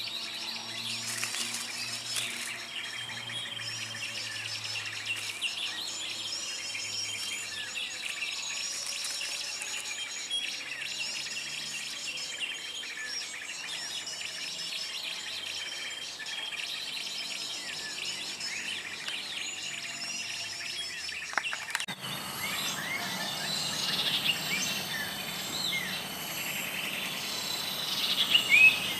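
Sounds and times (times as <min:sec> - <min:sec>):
small birds chirping and twittering: 0:00.0 - 0:28.9.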